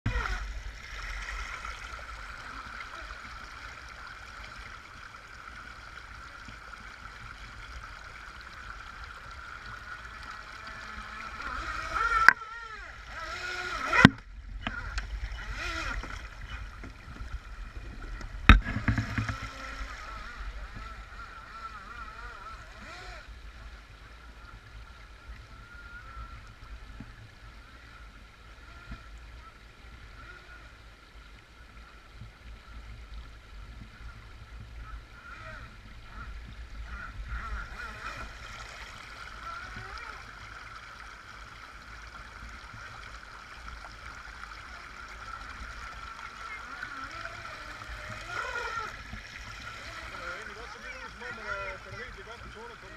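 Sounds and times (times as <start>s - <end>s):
model boat motor whine: 0.1s - 32.0s, 32.6s - 52.9s
shallow stream rushing: 0.1s - 52.9s.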